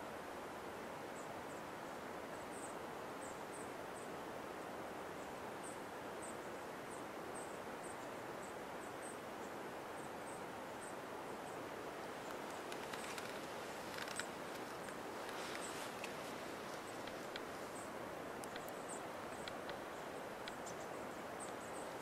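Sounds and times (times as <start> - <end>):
forest ambience hiss: 0.0 - 22.0.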